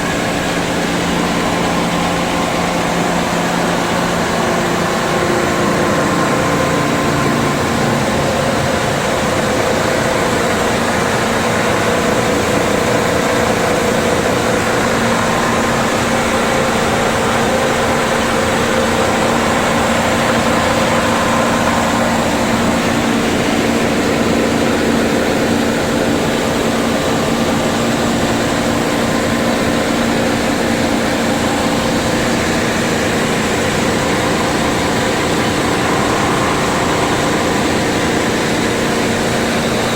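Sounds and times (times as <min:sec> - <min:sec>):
loud machinery noise: 0:00.0 - 0:39.9
motor hums: 0:00.0 - 0:39.9.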